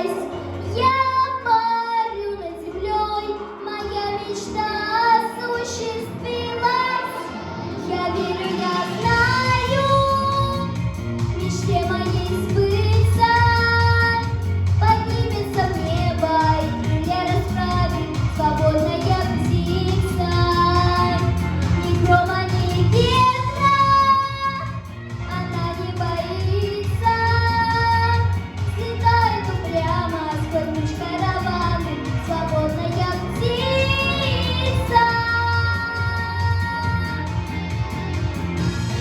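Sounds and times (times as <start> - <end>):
girl singing: 0.0 - 37.4
instrumental backing track: 0.0 - 39.0.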